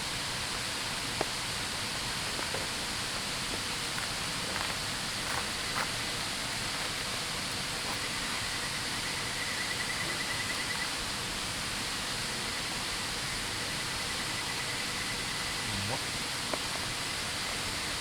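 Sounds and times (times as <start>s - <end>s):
river flowing: 0.1s - 18.0s.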